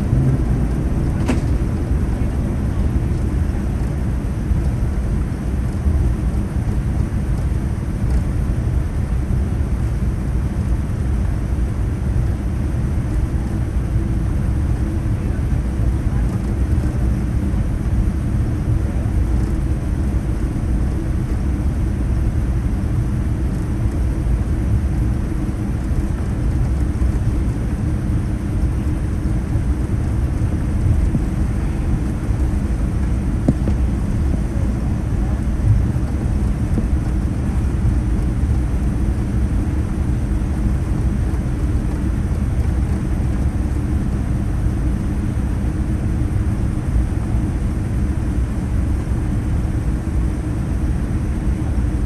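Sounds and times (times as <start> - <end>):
airplane cabin rumble: 0.0 - 52.0.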